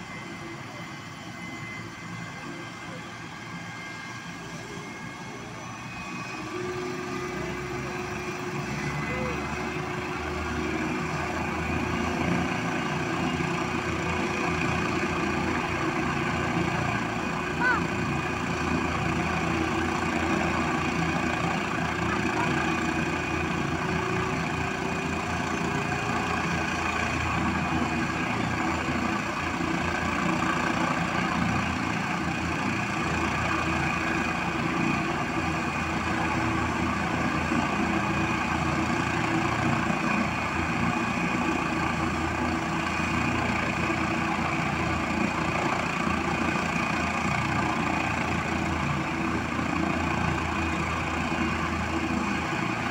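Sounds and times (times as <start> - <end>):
helicopter idling: 0.0 - 52.9.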